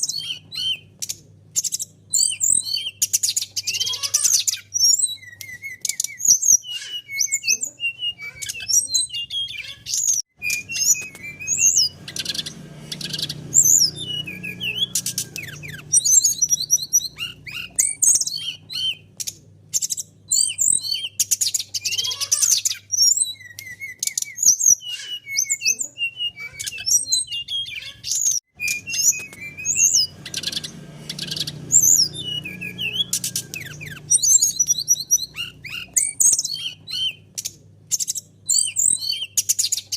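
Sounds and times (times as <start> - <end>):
bird singing high chirps and trills: 0.0 - 39.9.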